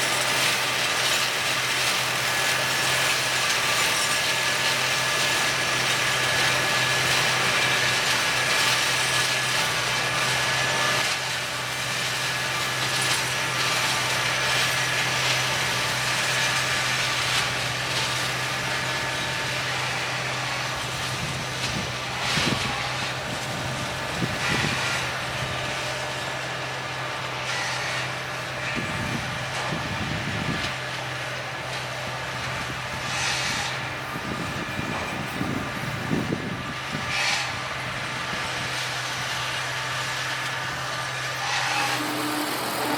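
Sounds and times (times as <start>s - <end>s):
flail mower running: 0.0s - 42.9s.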